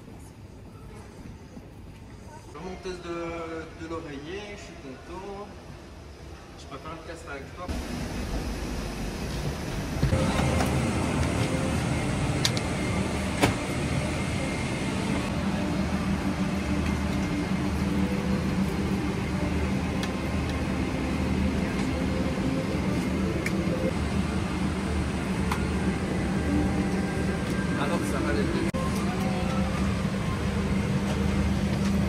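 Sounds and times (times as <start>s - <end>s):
airliner cabin hum and air rush: 0.0s - 32.0s.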